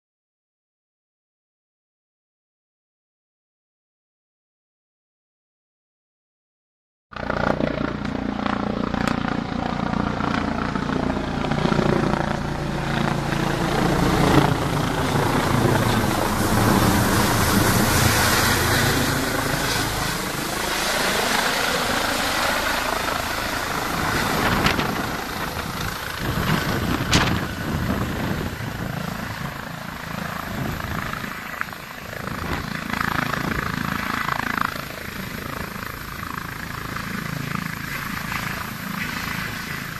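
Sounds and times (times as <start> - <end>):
helicopter rotor and turbine: 7.1 - 39.9.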